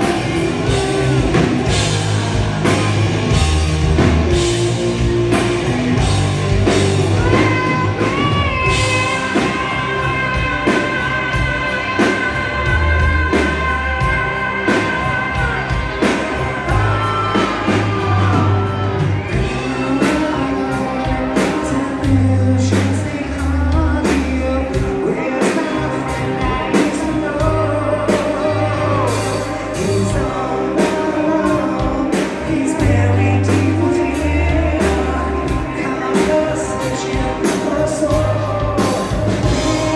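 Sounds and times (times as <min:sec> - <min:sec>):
live hard rock band: 0:00.0 - 0:39.9
male singer: 0:00.0 - 0:39.9.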